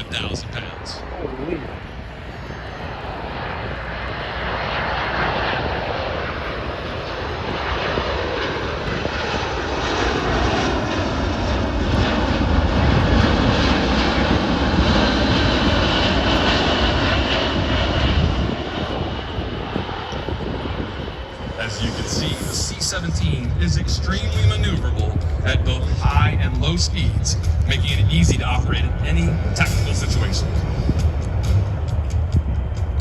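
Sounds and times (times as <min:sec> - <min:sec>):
jet engines on low pass: 0:00.0 - 0:33.0.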